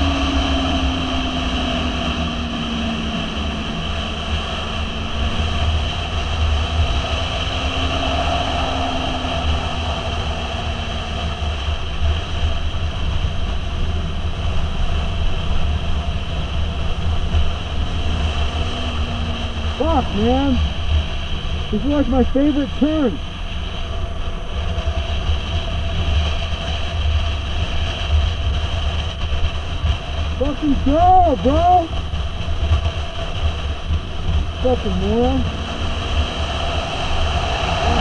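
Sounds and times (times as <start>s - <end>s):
motorcycle engine: 0.0s - 38.0s
wind rumble on microphone: 0.0s - 38.0s.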